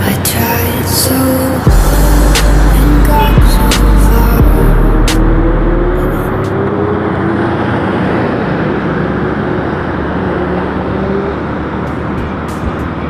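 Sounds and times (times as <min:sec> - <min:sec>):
motorcycle engine: 0:00.0 - 0:13.0
wind and road rush: 0:00.0 - 0:13.0.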